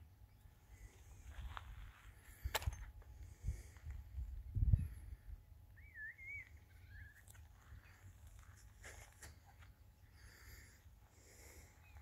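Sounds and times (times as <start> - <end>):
distant bird calls: 0.0 - 12.0.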